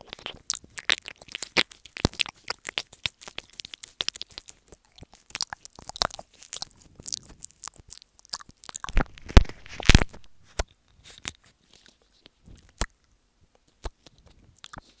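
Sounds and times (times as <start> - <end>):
wet lip and tongue clicks: 0.0 - 15.0.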